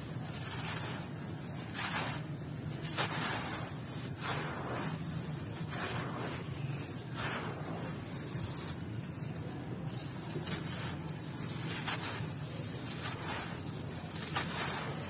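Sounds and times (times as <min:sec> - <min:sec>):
sand and gravel pouring: 0:00.0 - 0:15.0.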